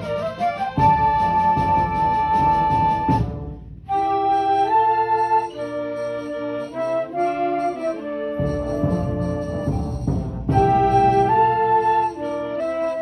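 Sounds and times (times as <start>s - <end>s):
band playing held wind chords: 0.0s - 13.0s.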